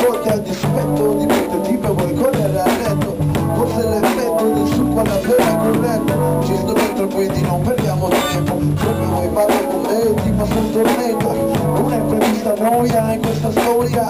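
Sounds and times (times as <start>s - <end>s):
drums with steady beat: 0.0s - 14.0s
electric guitar: 0.0s - 14.0s
held bass notes: 0.1s - 14.0s.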